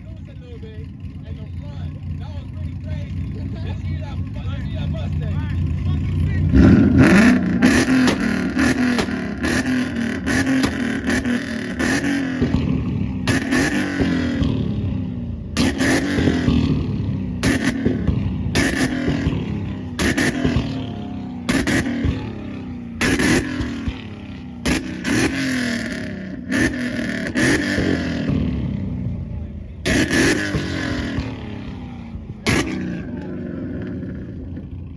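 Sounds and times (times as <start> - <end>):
exhaust pops: 0.0 - 34.8
car engine on rev limiter: 0.8 - 34.8.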